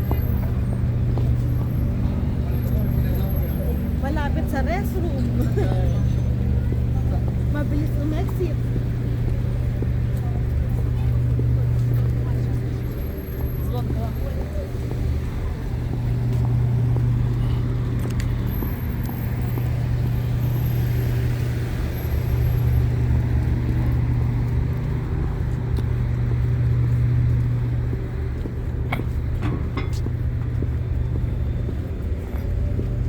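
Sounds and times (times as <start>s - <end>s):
diesel train engine droning: 0.0s - 33.0s.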